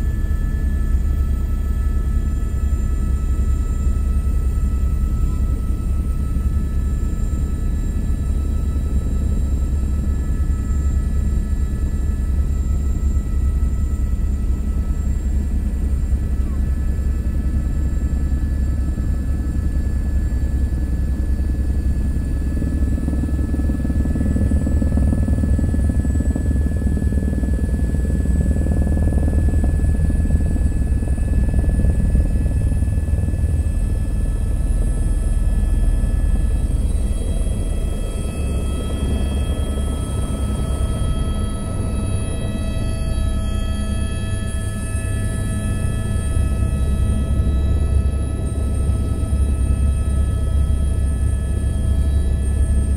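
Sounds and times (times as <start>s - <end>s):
helicopter rotor rumble: 0.0s - 52.9s
helicopter turbine whine: 0.0s - 52.9s.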